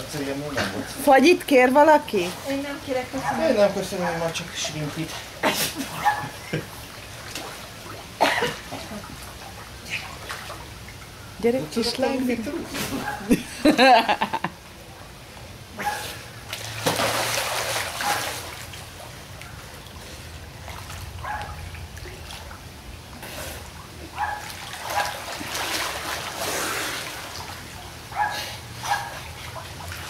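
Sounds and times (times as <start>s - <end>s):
pool water splashing: 0.0s - 30.0s.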